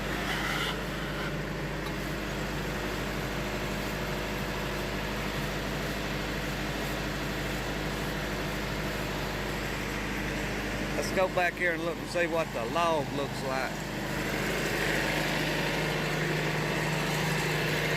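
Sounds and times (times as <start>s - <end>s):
band sawmill running: 0.0s - 17.9s.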